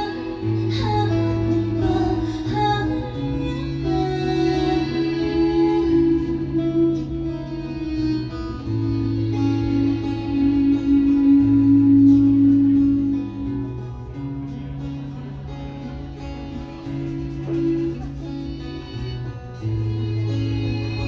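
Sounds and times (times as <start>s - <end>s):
acoustic and electric guitars: 0.0s - 21.0s.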